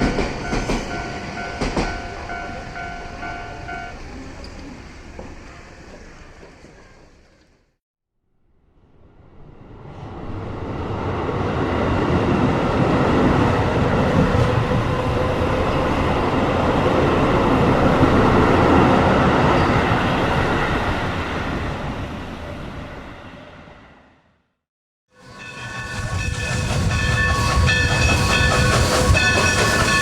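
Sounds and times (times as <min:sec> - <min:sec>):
train rumbling on rails: 0:00.0 - 0:07.8, 0:08.8 - 0:24.3, 0:25.1 - 0:30.0.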